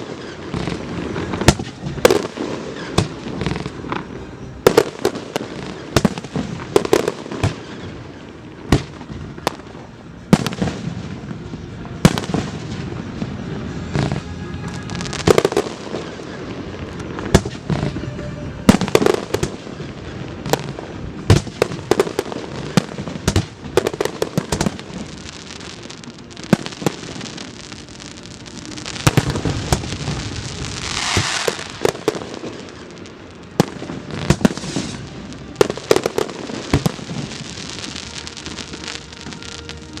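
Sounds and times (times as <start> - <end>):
fireworks banging: 0.0 - 40.0
fireworks hissing and crackling: 0.0 - 40.0.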